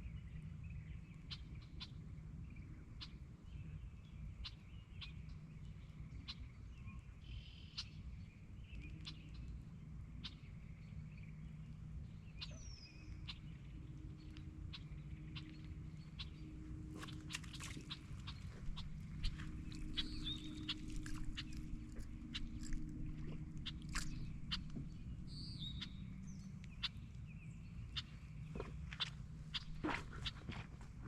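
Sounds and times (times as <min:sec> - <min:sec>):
steady low rumble: 0:00.0 - 0:31.0
birds chirping: 0:00.2 - 0:31.0.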